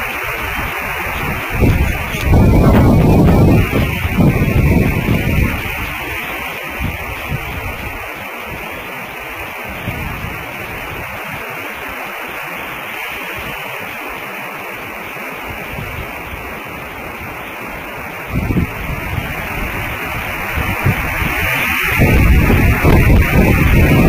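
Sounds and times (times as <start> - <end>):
static hiss: 0.0 - 24.0.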